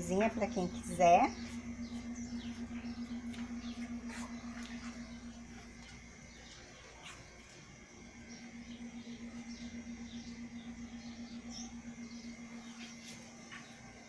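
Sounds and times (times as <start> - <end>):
low pulsing hum: 0.0 - 14.0
small birds chirping: 0.0 - 14.0.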